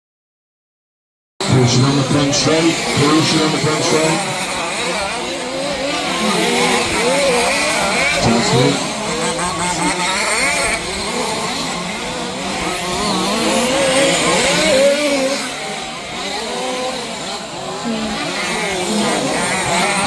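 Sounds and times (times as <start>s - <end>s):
rc car engines buzzing: 1.4s - 20.0s.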